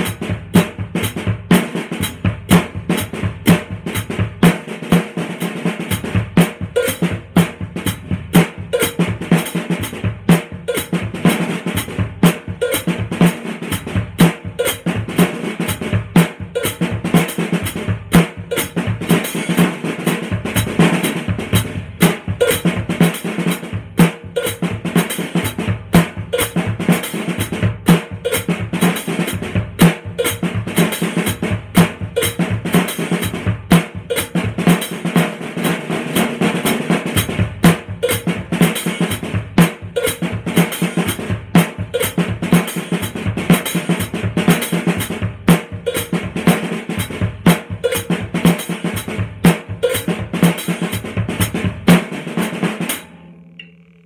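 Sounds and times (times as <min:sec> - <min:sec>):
drum kit playing: 0:00.0 - 0:54.0.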